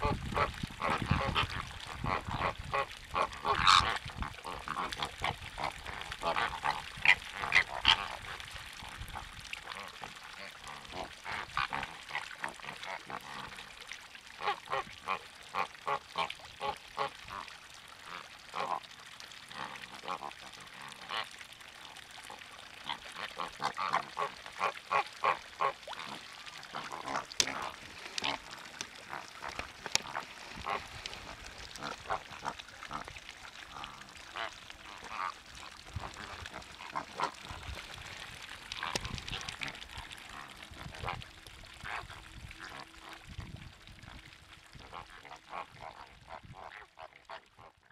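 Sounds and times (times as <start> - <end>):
water birds calling: 0.0 - 47.9.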